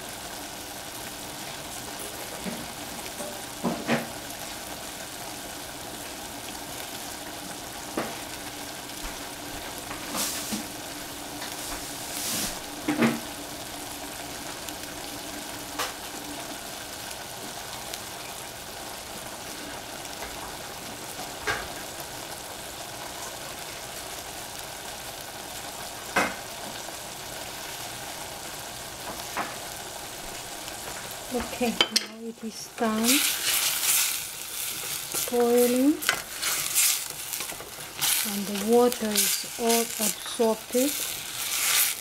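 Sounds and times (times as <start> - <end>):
vegetables sizzling in a saucepan: 0.0 - 42.0.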